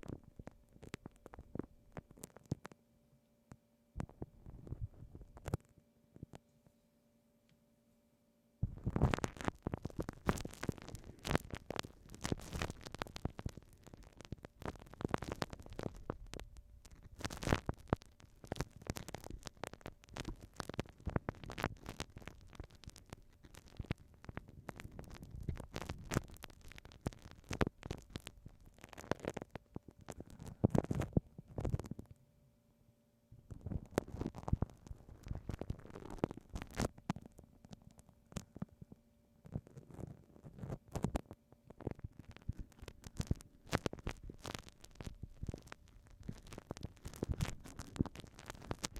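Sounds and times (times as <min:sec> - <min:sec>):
glue stick crackling on microphone: 0:00.0 - 0:02.8, 0:04.0 - 0:06.6, 0:08.6 - 0:32.2, 0:33.4 - 0:48.9.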